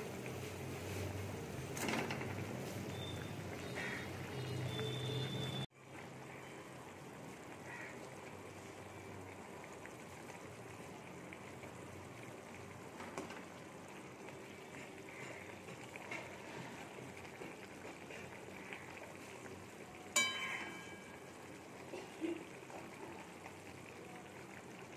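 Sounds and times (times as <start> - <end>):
curry simmering and bubbling: 0.0 - 24.9.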